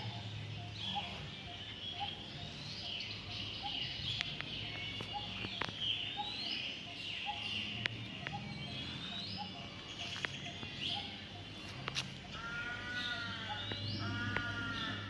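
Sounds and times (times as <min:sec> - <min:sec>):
longer bird call: 0:00.0 - 0:15.0.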